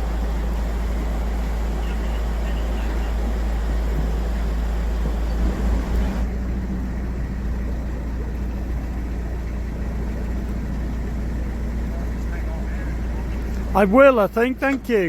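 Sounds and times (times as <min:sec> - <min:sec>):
diesel engine low rumble: 0:00.0 - 0:15.0.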